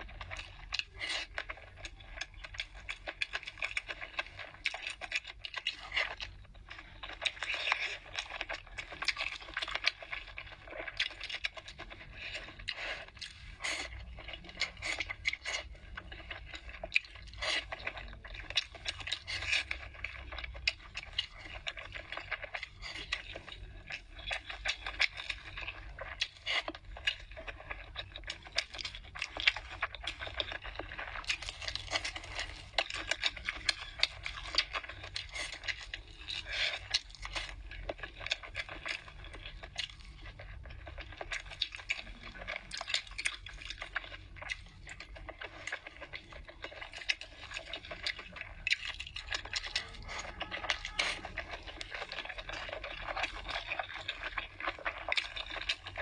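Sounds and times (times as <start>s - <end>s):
wet chewing and slurping: 0.0s - 56.0s.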